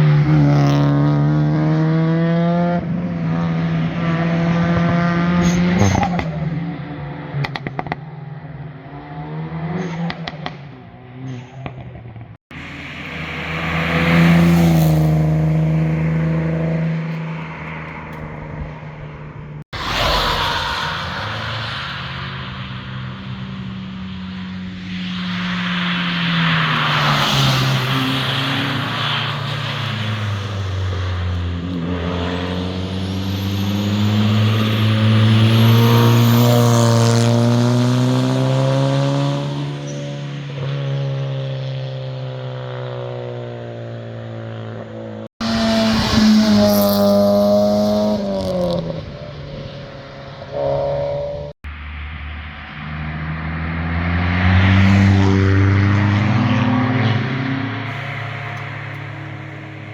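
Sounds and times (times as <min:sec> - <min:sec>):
car accelerating past: 0:00.0 - 0:06.4, 0:08.9 - 0:44.8, 0:45.4 - 0:59.9.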